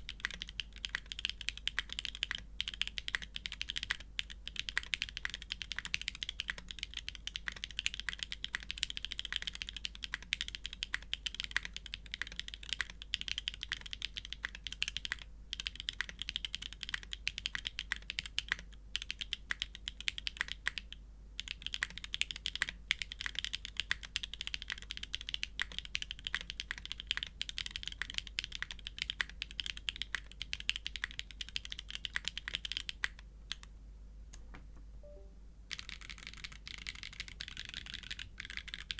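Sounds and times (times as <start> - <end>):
mechanical keyboard typing: 0.0 - 33.7, 35.7 - 38.9.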